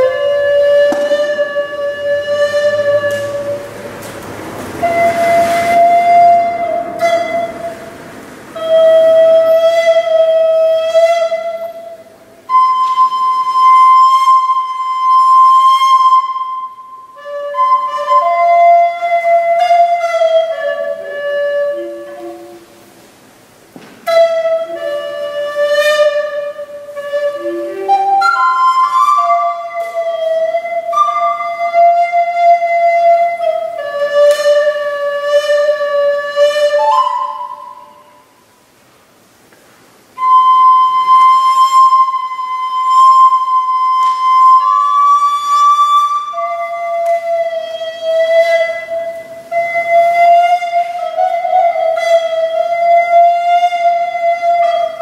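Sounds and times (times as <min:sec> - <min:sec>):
recorder playing: 0:00.0 - 0:22.7, 0:24.0 - 0:38.3, 0:40.2 - 0:55.0.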